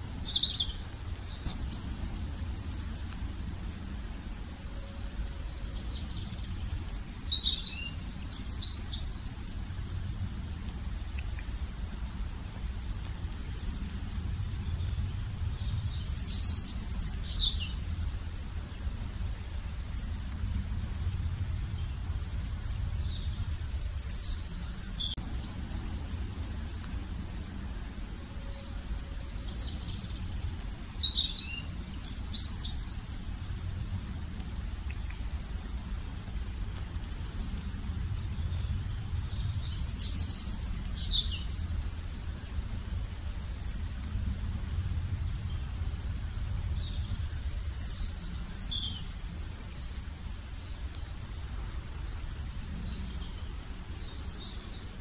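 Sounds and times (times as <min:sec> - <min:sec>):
low steady rumble: 0:00.0 - 0:55.0
songbird singing: 0:00.0 - 0:55.0.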